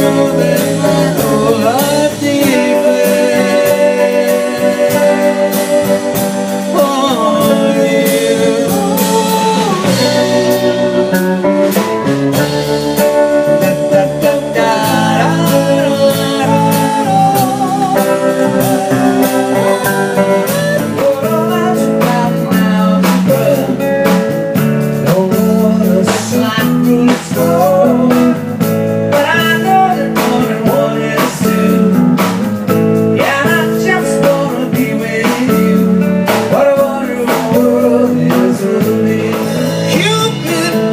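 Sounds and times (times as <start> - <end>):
bass guitar: 0.0 - 40.9
drum kit with cymbal hits: 0.0 - 40.9
electric guitar: 0.0 - 40.9.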